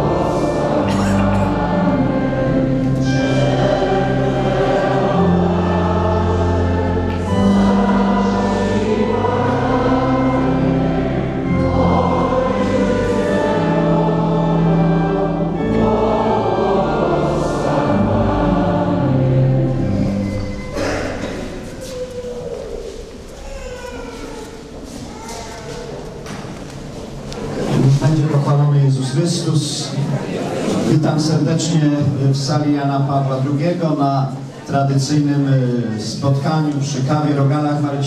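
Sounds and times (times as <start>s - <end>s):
congregation singing a hymn: 0.0s - 23.4s, 25.7s - 38.0s.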